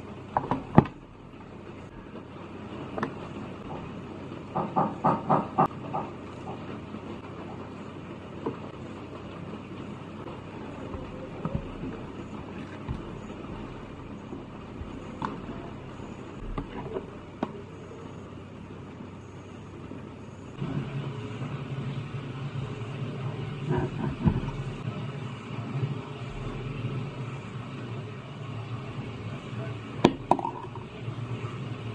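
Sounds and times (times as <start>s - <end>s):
low steady hum: 0.0s - 5.2s, 6.1s - 31.9s
steady background rumble: 0.0s - 31.9s.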